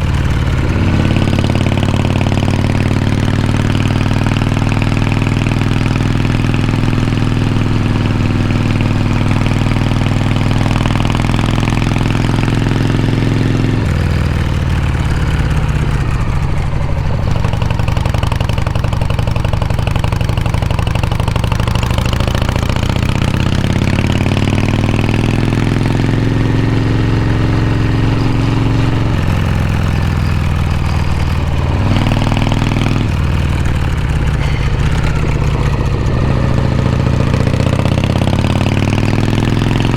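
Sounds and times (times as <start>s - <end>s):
motorcycle engine running loudly: 0.0s - 39.9s.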